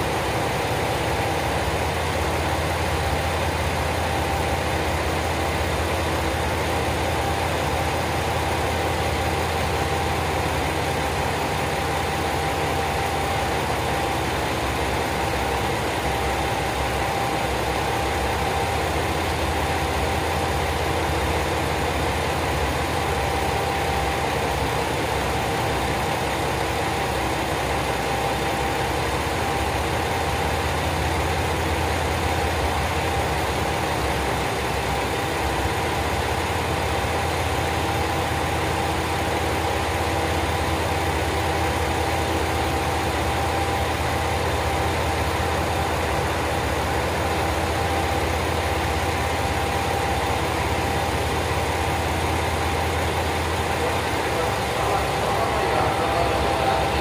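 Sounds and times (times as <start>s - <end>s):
diesel train engines idling: 0.0s - 57.0s.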